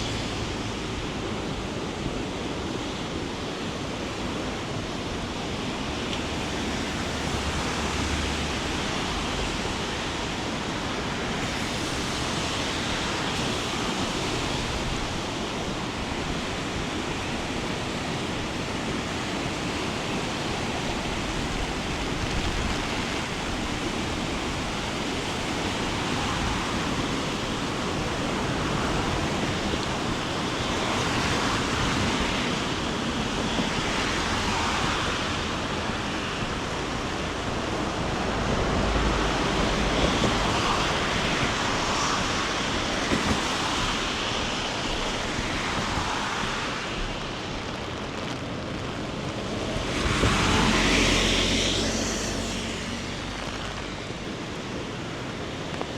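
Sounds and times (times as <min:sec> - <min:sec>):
river rushing: 0:00.0 - 0:55.9.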